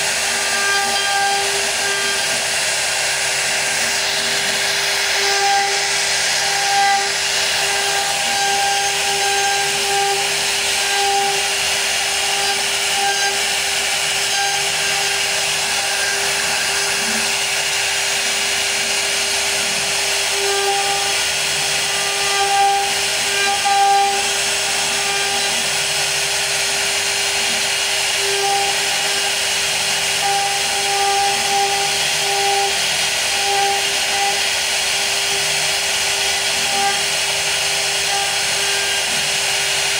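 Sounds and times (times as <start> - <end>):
router spindle whining: 0.0 - 39.9
wood cutting hiss: 0.0 - 39.9.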